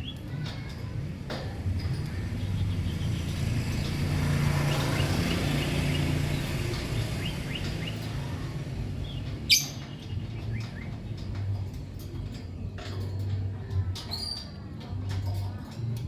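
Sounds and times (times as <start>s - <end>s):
birds chirping: 1.8s - 14.7s.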